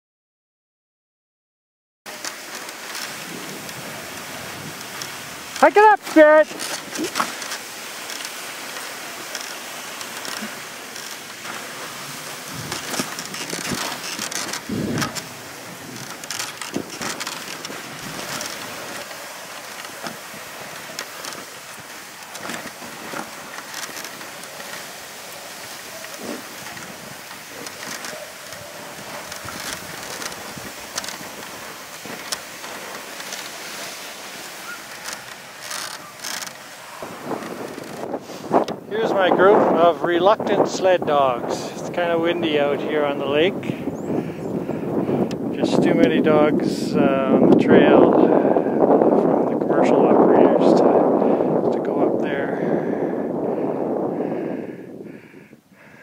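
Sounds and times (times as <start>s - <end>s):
sled runners hissing on snow: 2.1s - 47.0s, 52.4s - 56.0s
wind buffeting microphone: 2.8s - 56.0s.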